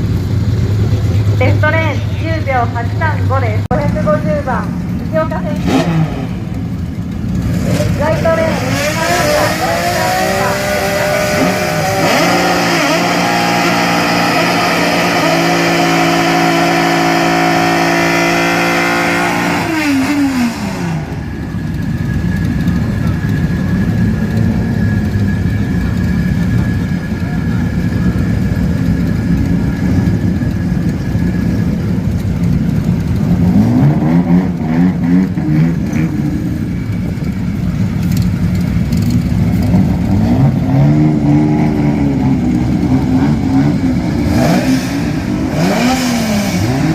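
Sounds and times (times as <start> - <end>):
drag cars revving and launching: 0.0 - 46.9.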